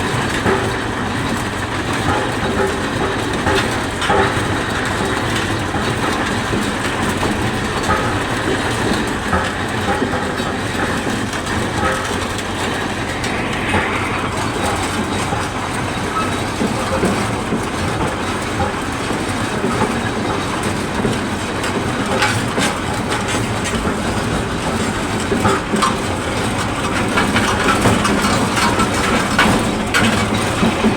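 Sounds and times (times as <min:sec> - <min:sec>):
road roller engine running: 0:00.0 - 0:30.9.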